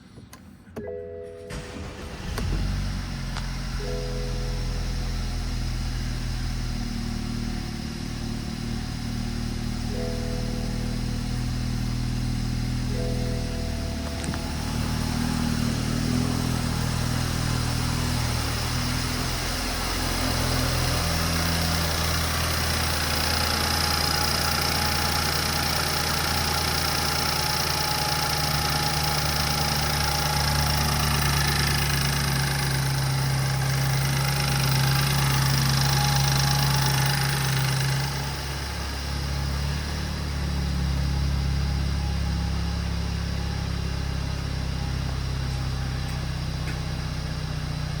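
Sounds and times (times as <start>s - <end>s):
car engine revving and idling: 1.4s - 48.0s.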